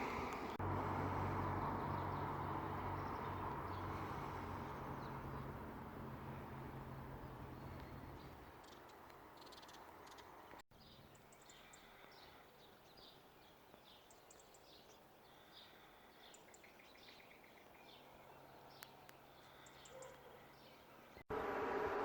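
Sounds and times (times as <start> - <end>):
faint birds chirping: 0.0 - 21.3.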